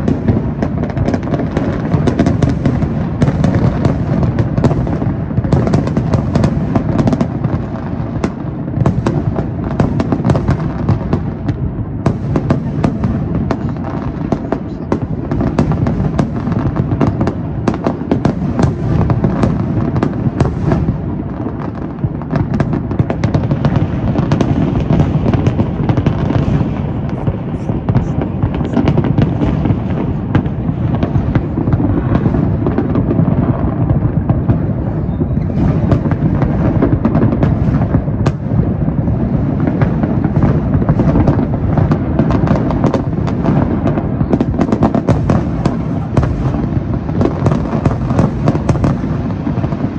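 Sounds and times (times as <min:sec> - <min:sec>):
fireworks booming and crackling: 0:00.0 - 0:49.9.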